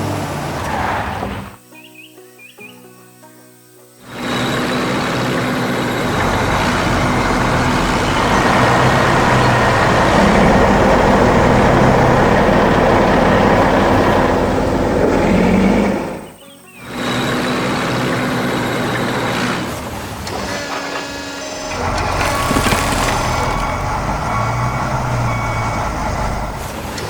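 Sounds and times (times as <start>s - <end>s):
heavy truck engine running: 0.0s - 1.6s, 4.1s - 27.0s.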